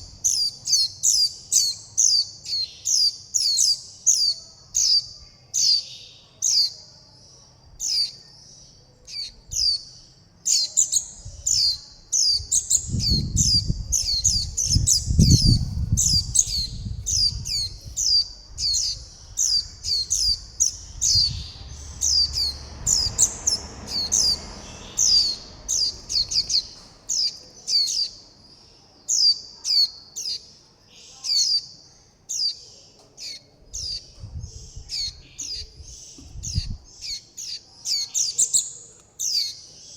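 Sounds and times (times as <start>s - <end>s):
fledgling birds chirping: 0.0s - 39.9s.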